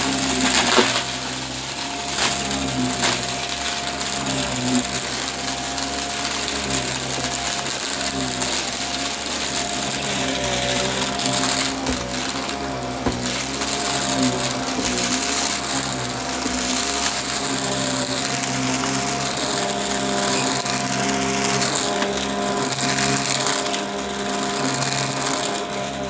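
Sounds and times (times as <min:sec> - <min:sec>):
vacuum cleaner running: 0:00.0 - 0:26.0
vacuum picking up crunchy debris: 0:00.0 - 0:26.0.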